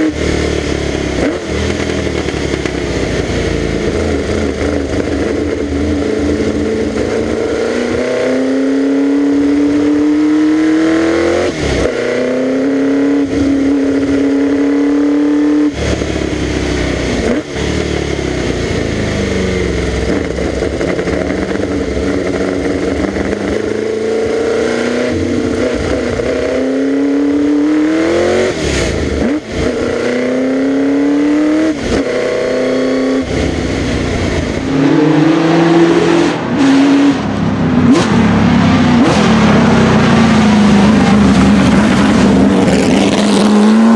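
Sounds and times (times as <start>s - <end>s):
racing engine revving with upshifts: 0.0s - 43.9s.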